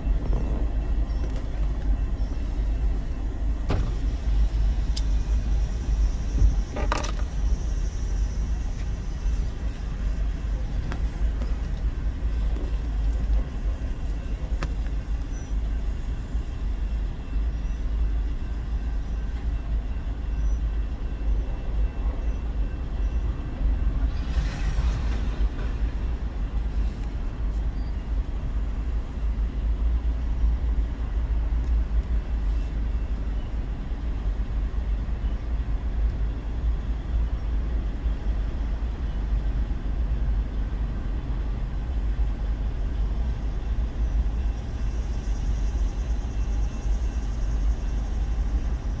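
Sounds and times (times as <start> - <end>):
freight train rumbling past: 0.0 - 49.0.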